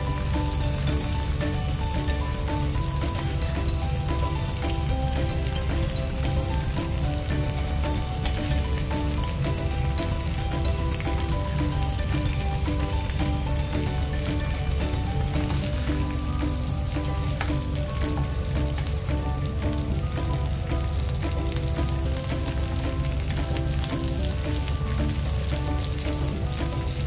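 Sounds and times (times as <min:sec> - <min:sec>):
shrimp sizzling in a pan: 0:00.0 - 0:27.0
simple background melody: 0:00.0 - 0:27.0.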